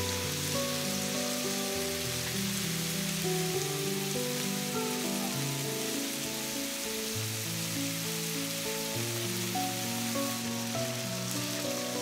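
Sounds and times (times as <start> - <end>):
beef sizzling in frying pan: 0.0 - 12.0
soft background music: 0.0 - 12.0.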